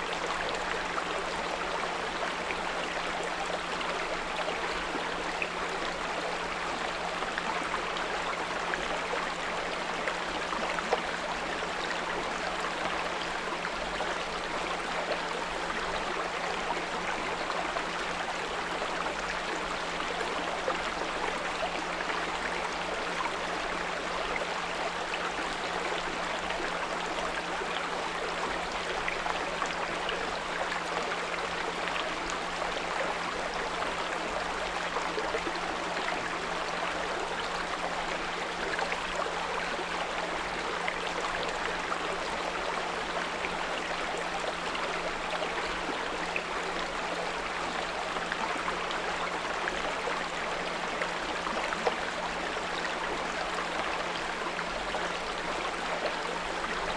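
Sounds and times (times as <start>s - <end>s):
brook babbling over stones: 0.0s - 56.9s.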